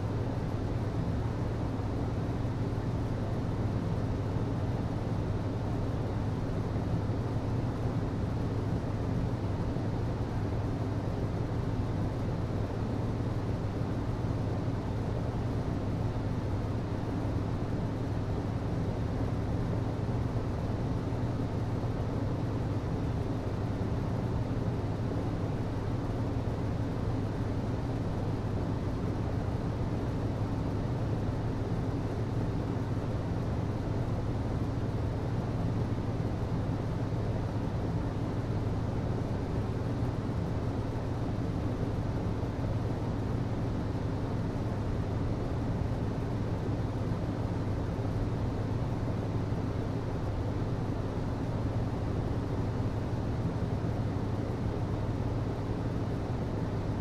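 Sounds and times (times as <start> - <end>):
air conditioning hum and rush: 0.0 - 57.0.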